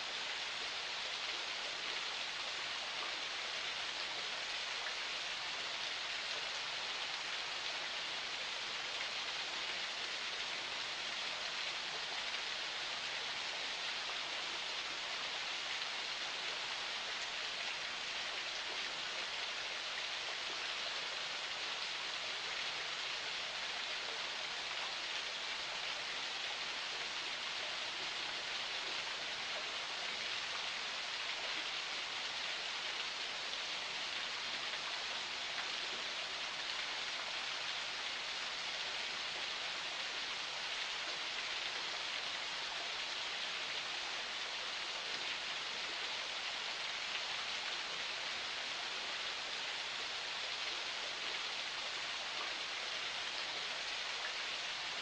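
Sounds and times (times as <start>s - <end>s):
spring water flowing and splashing: 0.0s - 55.0s.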